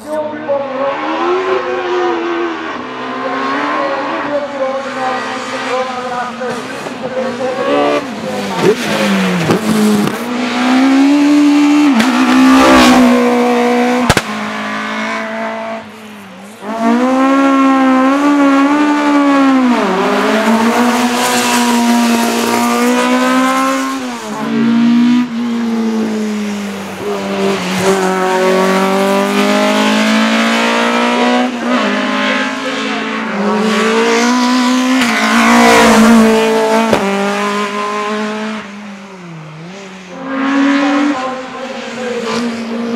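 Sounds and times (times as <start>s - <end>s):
race car engines at full throttle: 0.0s - 42.9s.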